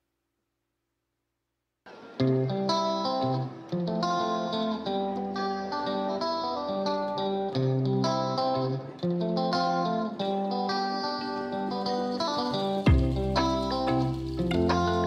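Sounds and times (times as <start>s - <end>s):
plucked guitar melody: 1.9s - 15.0s.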